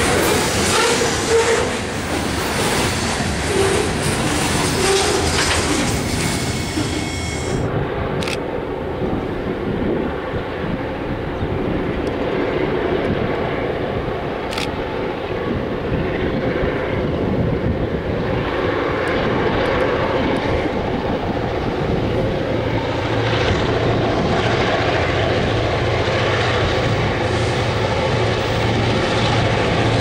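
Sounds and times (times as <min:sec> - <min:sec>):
distant locomotive drone: 0:00.0 - 0:30.0
wind buffeting microphone: 0:00.0 - 0:30.0.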